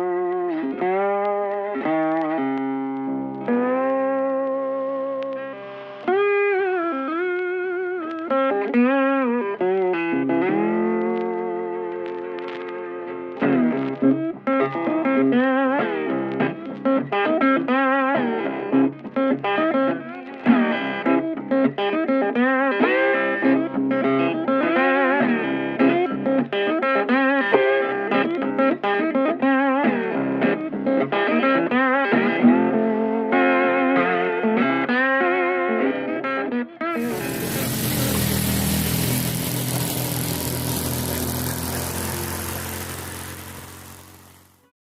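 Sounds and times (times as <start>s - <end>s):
guitar-led music with bent notes: 0.0s - 44.4s.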